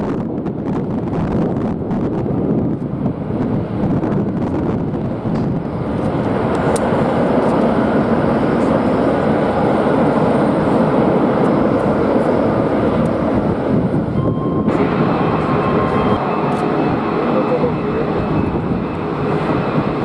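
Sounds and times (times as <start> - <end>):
jet airliner engines roaring: 0.0 - 20.0.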